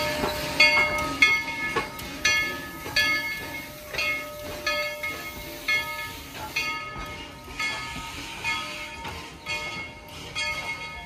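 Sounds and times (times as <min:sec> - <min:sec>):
locomotive bell ringing: 0:00.0 - 0:11.0
train rumbling: 0:00.0 - 0:11.0.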